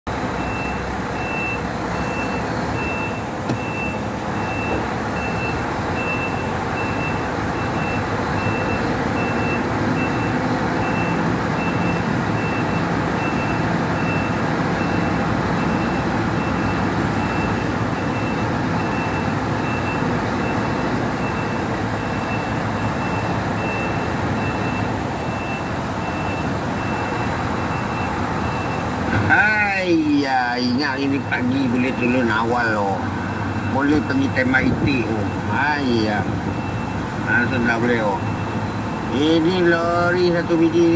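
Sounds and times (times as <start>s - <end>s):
diesel engine running: 0.1s - 40.9s
truck reversing alarm beeping: 0.1s - 40.9s.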